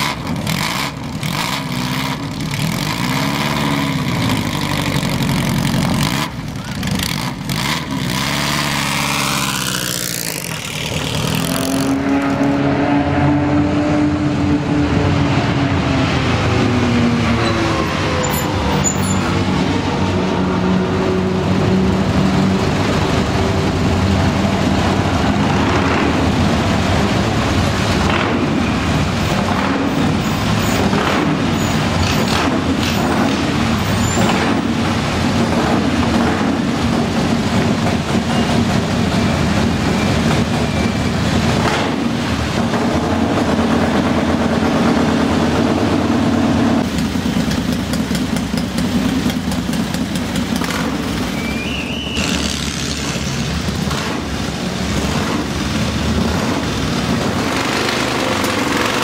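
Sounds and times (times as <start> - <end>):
small car engines revving: 0.0 - 59.0.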